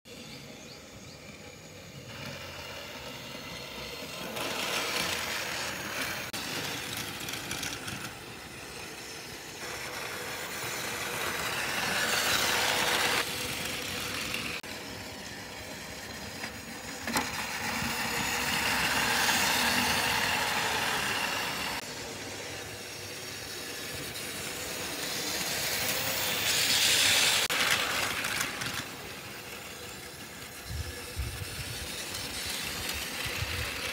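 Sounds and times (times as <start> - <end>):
toy trains whirring on track: 0.1 - 33.9.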